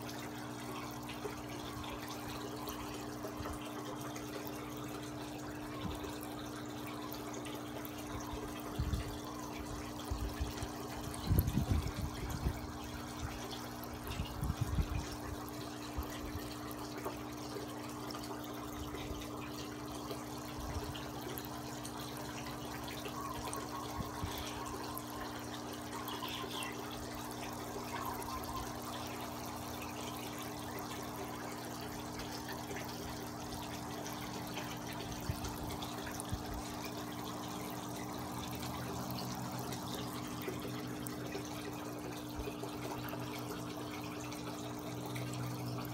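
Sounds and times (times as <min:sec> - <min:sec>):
low steady hum: 0:00.0 - 0:45.9
water trickling into pond: 0:00.0 - 0:45.9.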